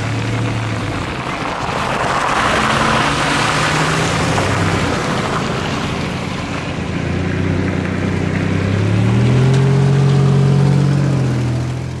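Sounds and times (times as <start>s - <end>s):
car engine accelerating: 0.0s - 12.0s
tyres hissing on wet road: 0.0s - 12.0s.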